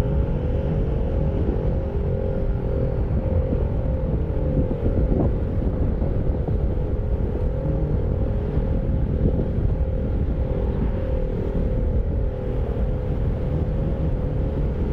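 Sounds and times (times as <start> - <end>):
wind noise on microphone: 0.0 - 14.9.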